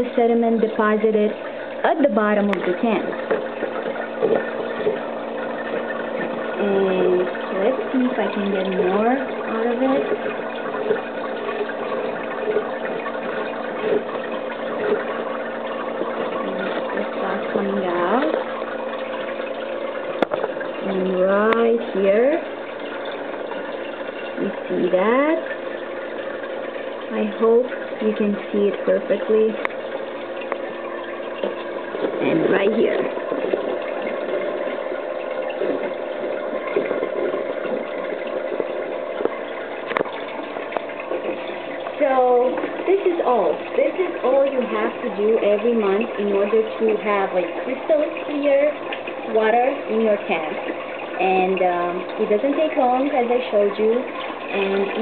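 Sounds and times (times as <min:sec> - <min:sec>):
faint steady hum: 0:00.0 - 0:55.0
water gurgling through siphon: 0:00.0 - 0:55.0.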